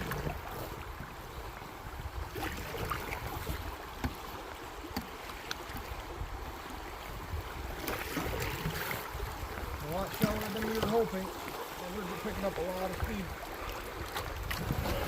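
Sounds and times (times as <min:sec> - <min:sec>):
river water rushing around canoe: 0:00.0 - 0:15.0.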